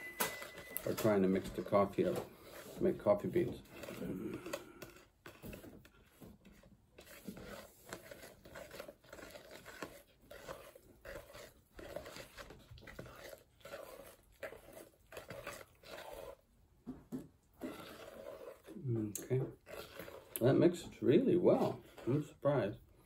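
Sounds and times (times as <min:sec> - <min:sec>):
spoon scraping batter in bowl: 0:00.4 - 0:23.0.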